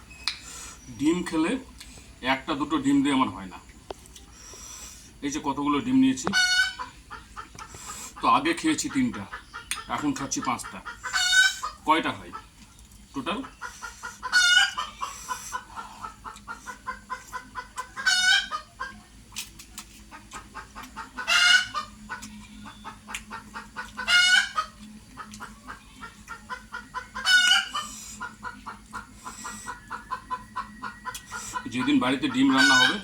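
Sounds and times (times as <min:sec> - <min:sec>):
chickens clucking: 0:00.0 - 0:33.0
loud chicken calls: 0:04.4 - 0:12.5, 0:13.2 - 0:19.0, 0:20.1 - 0:33.0.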